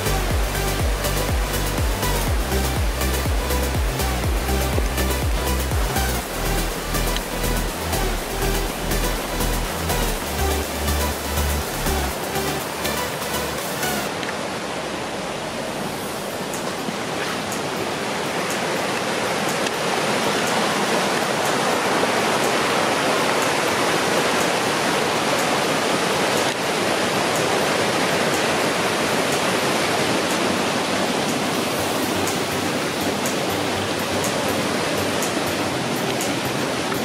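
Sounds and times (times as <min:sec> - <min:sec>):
water rushing over rocks: 0:00.0 - 0:37.0.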